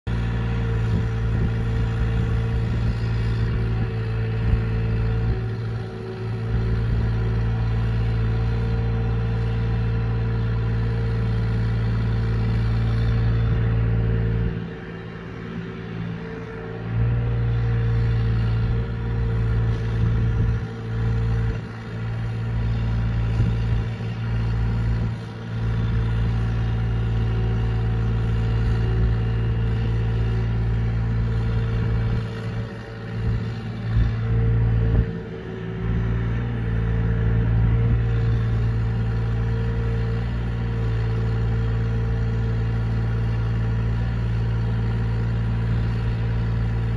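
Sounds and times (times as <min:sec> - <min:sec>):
excavator diesel engine running: 0:00.1 - 0:46.9.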